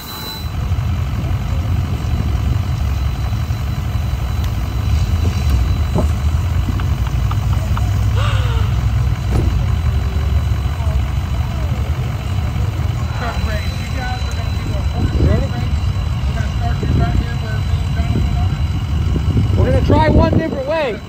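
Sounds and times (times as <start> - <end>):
truck engine idling: 0.0 - 21.0
faint voices: 0.9 - 21.0.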